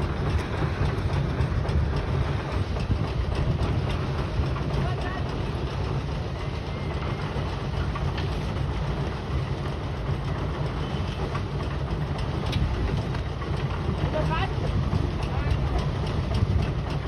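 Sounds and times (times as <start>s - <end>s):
pile driving rig rumbling: 0.0s - 17.0s.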